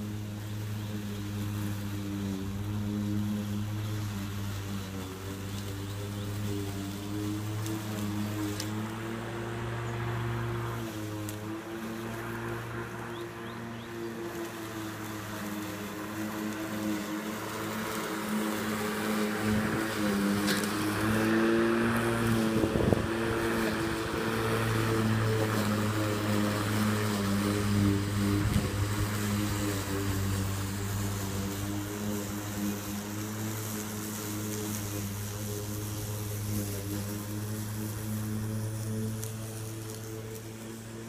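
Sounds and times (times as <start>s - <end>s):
electric lawnmower running: 0.0s - 41.0s
hiss of grass cutting: 0.0s - 41.0s.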